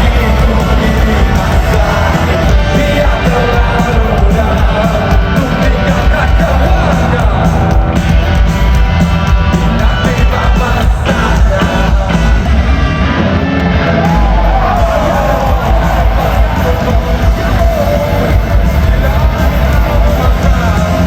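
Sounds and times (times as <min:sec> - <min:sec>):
crowd yelling and singing: 0:00.0 - 0:21.0
live rock band with singing: 0:00.0 - 0:21.0.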